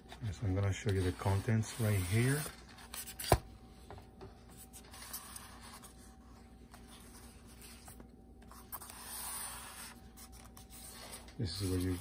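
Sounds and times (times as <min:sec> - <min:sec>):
paper and cardboard rustling: 0:00.0 - 0:03.5, 0:04.4 - 0:12.0.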